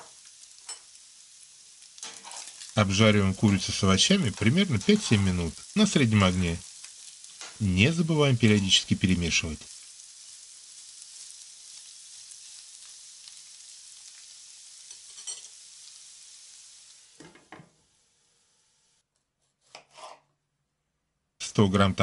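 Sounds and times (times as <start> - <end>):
chicken sizzling in frying pan: 0.0 - 19.0.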